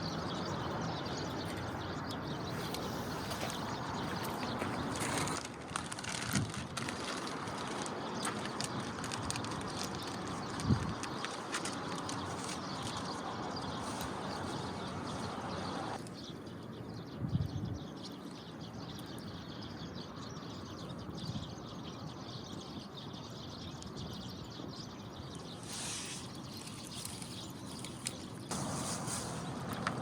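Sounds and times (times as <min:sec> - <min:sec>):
birds chirping: 0:00.0 - 0:05.4, 0:06.8 - 0:30.0.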